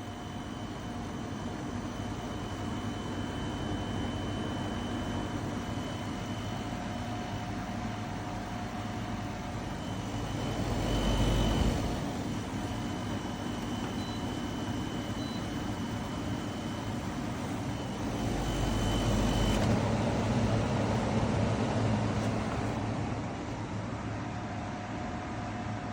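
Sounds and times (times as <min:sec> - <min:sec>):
thin high whine: 0:00.0 - 0:22.8
air conditioner fan running: 0:00.0 - 0:25.9.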